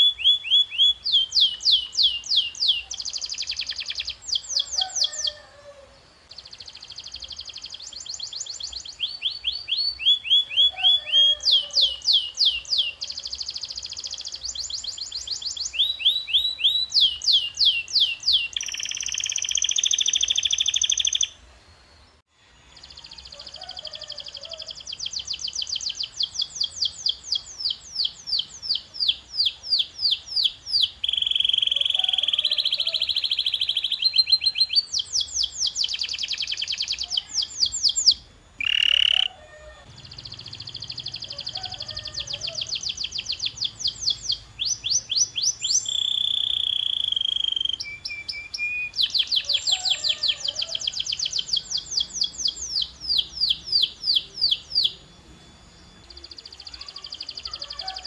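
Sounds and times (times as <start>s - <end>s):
canary singing: 0.0s - 21.4s, 22.8s - 58.0s.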